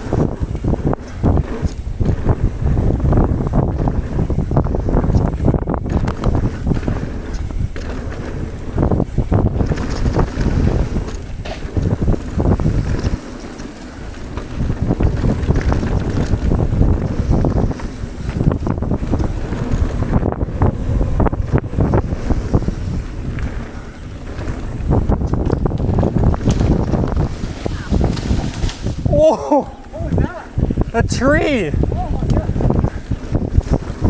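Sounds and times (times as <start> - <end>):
bike ticks and rattles: 0.0 - 34.0
tyres rolling over dirt: 0.0 - 34.0
wind buffeting microphone: 0.0 - 34.0.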